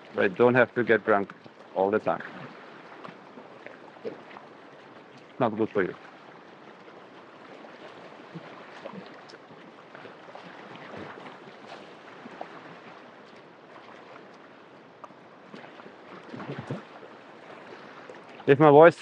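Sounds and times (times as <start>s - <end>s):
water splashing against stones: 0.0s - 18.8s
river water rushing: 0.0s - 19.0s.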